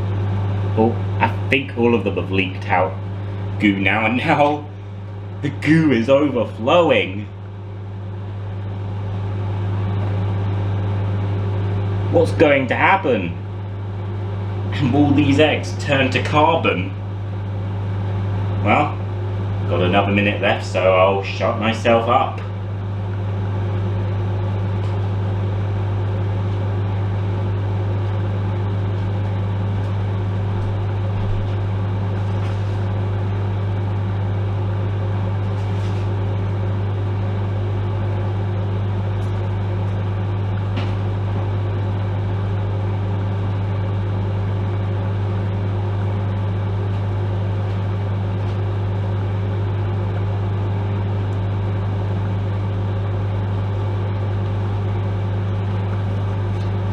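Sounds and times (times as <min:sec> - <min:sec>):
microwave oven humming: 0:00.0 - 0:56.9.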